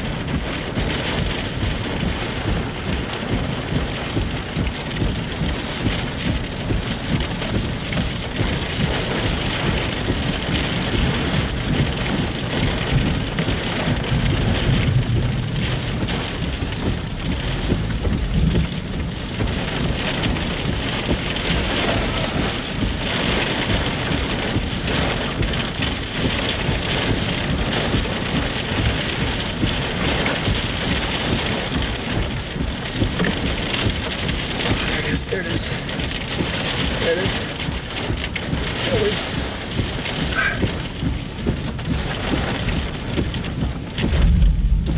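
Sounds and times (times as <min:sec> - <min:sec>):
heavy rain on a car: 0:00.0 - 0:44.9
low thunder rumble: 0:00.0 - 0:44.9.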